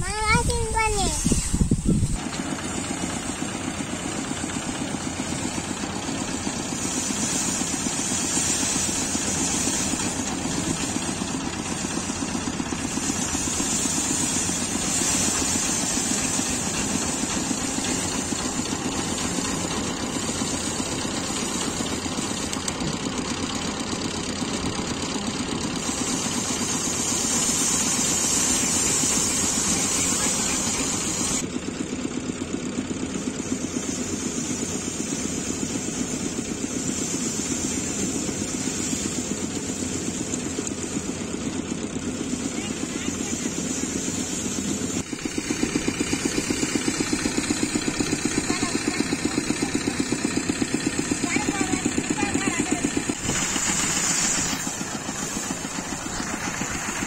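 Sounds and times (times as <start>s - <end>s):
hiss of grain stripping: 0.0s - 57.0s
thresher engine running: 0.0s - 57.0s.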